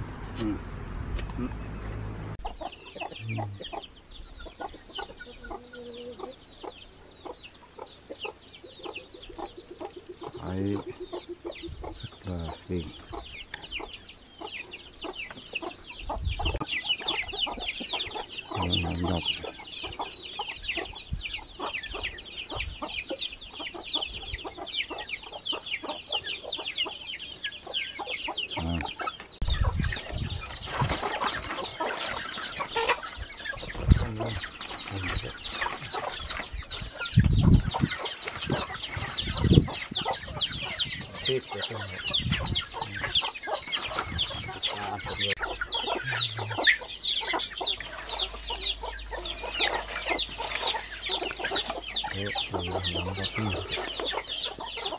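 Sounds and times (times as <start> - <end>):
chickens clucking: 2.4 - 54.9.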